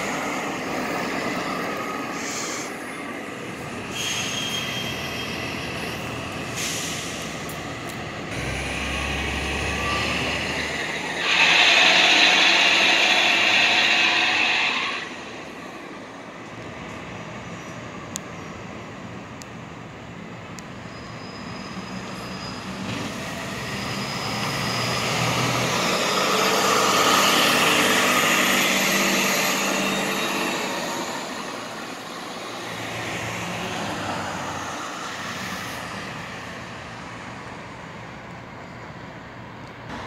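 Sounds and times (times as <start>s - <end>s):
bus passing with engine whine: 0.0s - 40.0s
road traffic passing: 0.0s - 40.0s.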